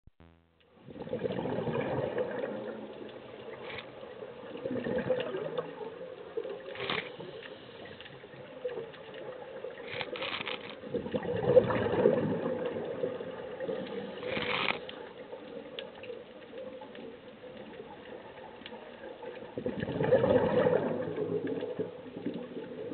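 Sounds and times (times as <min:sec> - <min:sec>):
exhaled bubbles gurgling: 0:00.8 - 0:22.9.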